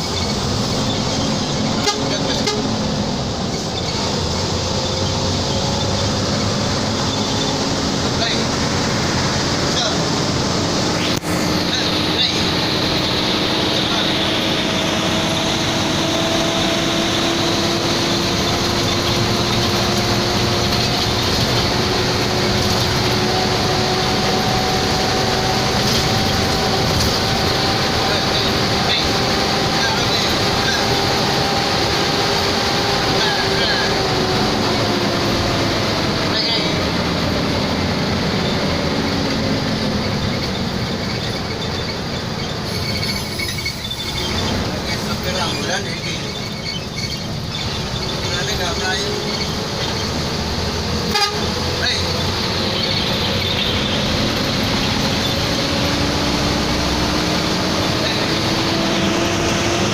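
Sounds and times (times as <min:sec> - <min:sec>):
bus engine: 0:00.0 - 0:59.9
road noise: 0:00.0 - 0:59.9.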